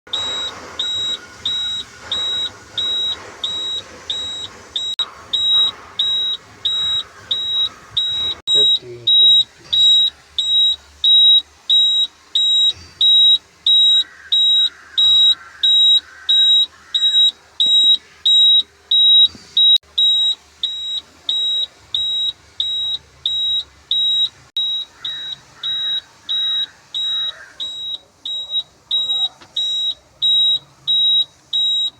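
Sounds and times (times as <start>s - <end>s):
electronic buzzer beeping: 0.1s - 31.9s.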